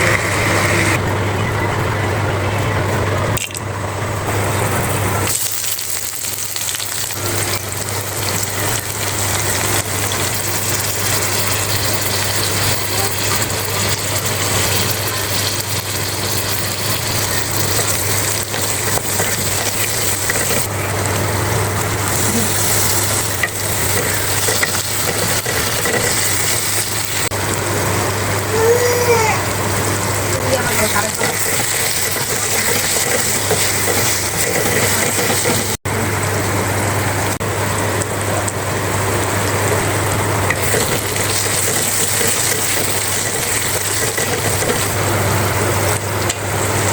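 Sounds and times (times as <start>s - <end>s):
food sizzling in a pan: 4.3s - 46.9s.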